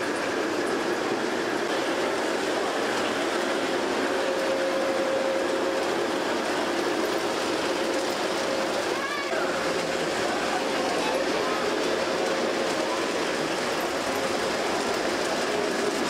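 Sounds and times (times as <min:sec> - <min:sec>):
model train wheels clattering: 0:00.0 - 0:16.0.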